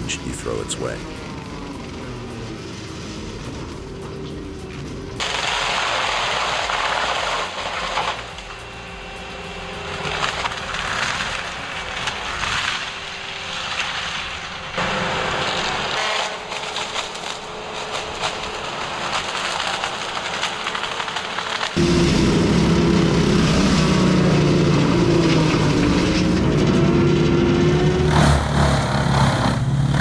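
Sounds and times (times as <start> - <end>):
mulcher shredding wood: 0.0 - 30.0.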